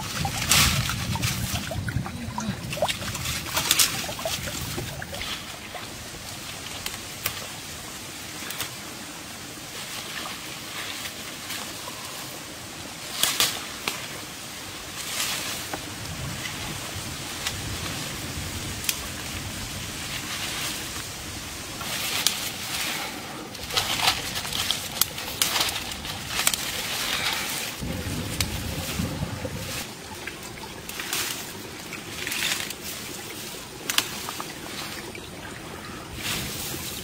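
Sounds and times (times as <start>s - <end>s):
leaves and stems rustling: 0.0s - 37.0s.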